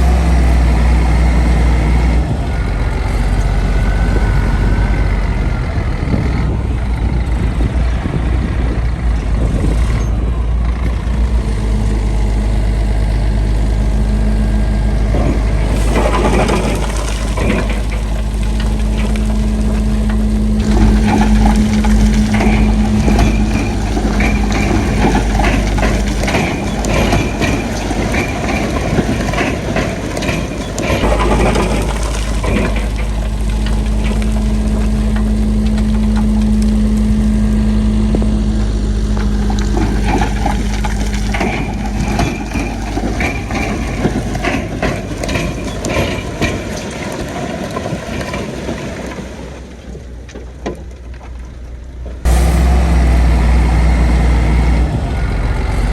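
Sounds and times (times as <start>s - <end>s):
diesel engine running: 0.0s - 55.9s
machinery clanking and grinding: 0.0s - 55.9s.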